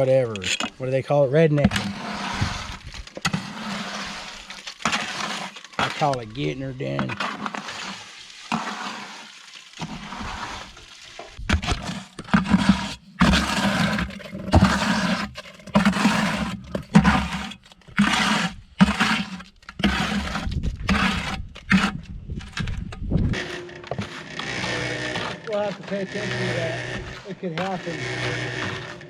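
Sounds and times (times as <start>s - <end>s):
gritty material pouring: 0.0s - 29.0s.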